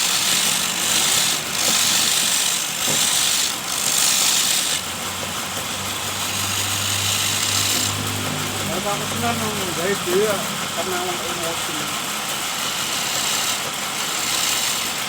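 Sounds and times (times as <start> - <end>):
chisel scraping spinning wood: 0.0 - 15.0
lathe motor hum: 0.0 - 15.0.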